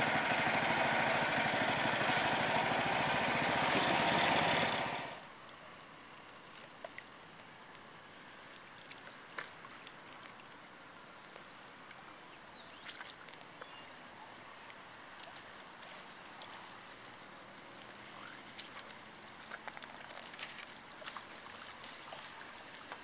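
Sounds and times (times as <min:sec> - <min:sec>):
river water lapping at shore: 0:00.0 - 0:23.0.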